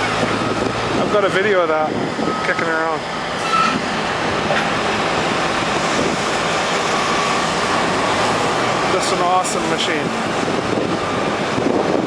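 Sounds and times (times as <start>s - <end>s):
heavy diesel machinery running: 0.0s - 12.0s.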